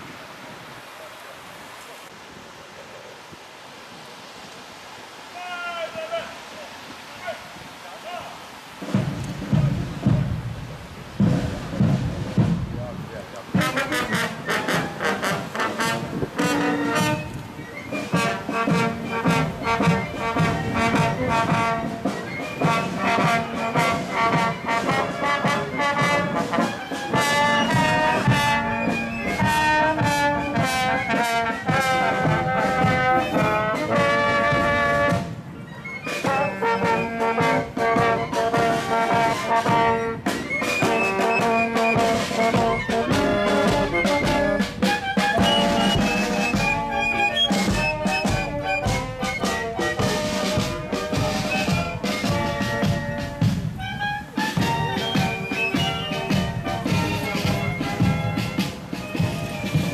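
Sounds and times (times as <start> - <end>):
marching band playing: 8.7 - 59.9.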